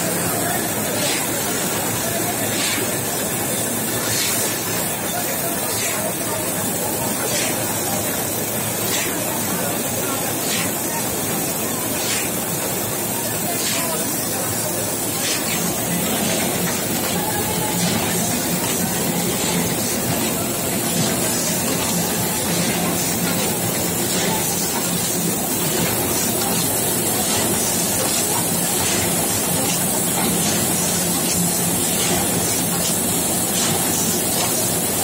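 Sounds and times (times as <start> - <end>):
wrapping machine mechanical din: 0.0 - 35.0.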